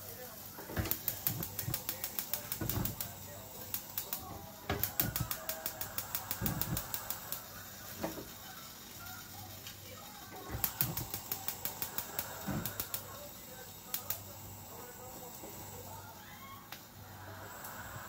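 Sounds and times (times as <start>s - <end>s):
fish crackling in hot oil: 0.0s - 14.7s.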